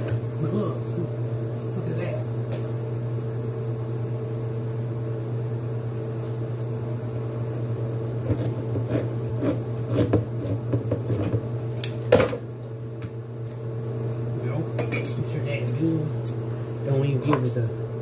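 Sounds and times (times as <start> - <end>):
appliance humming: 0.0 - 18.0.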